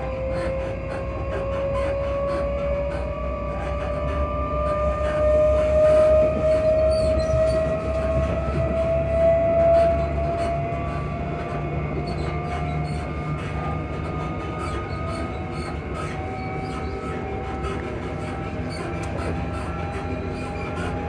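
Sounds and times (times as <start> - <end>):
electric train motor whine: 0.0 - 21.0
low running rumble: 0.0 - 21.0.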